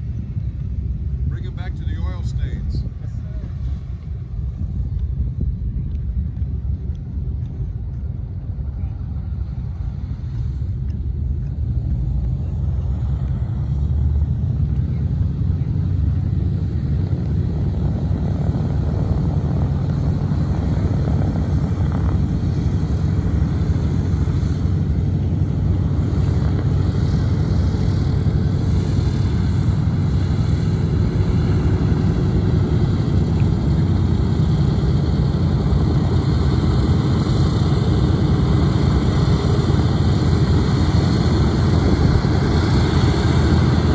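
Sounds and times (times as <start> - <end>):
aircraft engines rumbling: 0.0 - 43.9.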